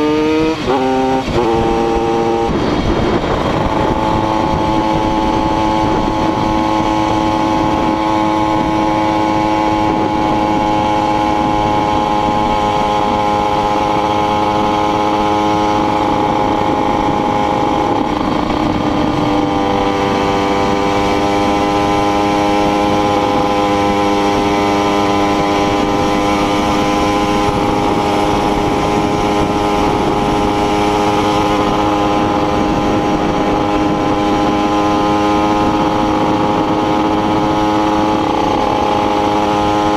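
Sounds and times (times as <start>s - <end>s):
small motorcycle engine running: 0.0s - 39.9s
wind rush: 0.0s - 39.9s.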